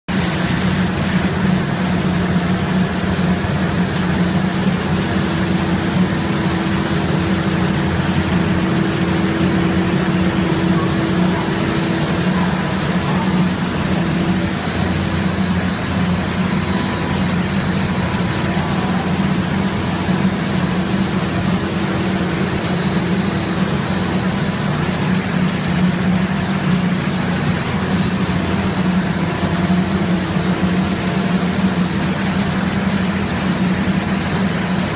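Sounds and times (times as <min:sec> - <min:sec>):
machine droning with low hum: 0:00.1 - 0:34.9.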